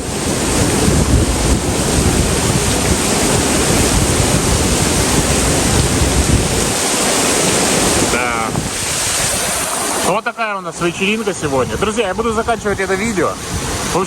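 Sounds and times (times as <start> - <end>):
heavy rain hiss: 0.0 - 14.0
wind gusting on microphone: 0.0 - 14.0.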